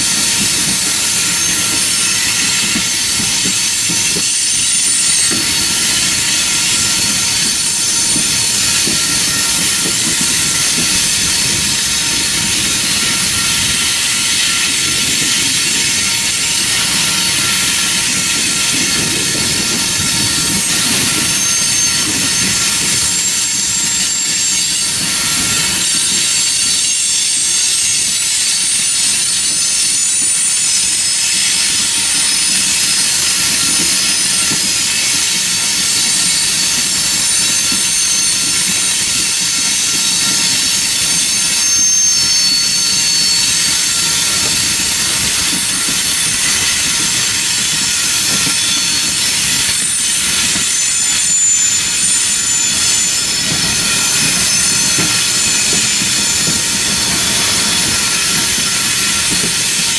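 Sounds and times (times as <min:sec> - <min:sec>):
high-pitched wheel squeal: 0:00.0 - 0:59.9
train wheels rumbling and clattering: 0:00.0 - 0:59.9.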